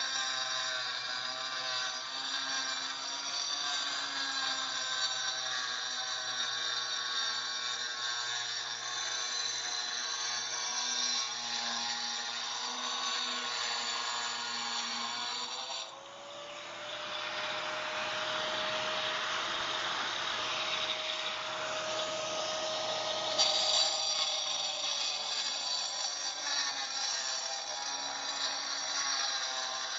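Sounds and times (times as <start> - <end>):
grinding through brick: 0.0 - 16.0, 16.6 - 29.9
angle grinder motor whine: 0.0 - 29.9.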